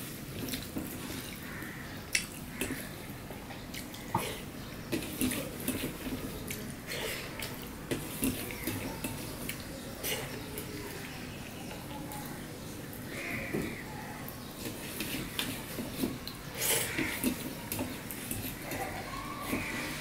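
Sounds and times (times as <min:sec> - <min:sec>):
wet squishing of food: 0:00.0 - 0:20.0.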